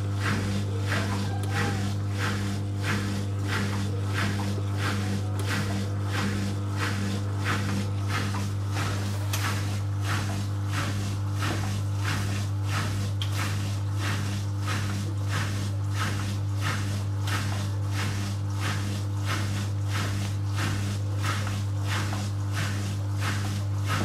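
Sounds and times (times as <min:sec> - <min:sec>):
washing machine drum swishing: 0:00.0 - 0:24.0
washing machine low hum: 0:00.0 - 0:24.0.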